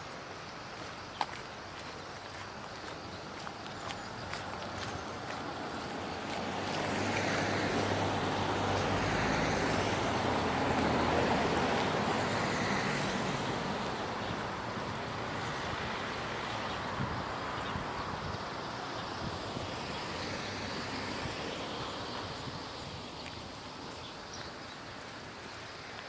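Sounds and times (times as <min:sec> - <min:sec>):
vehicle passing on road: 0:03.8 - 0:25.9.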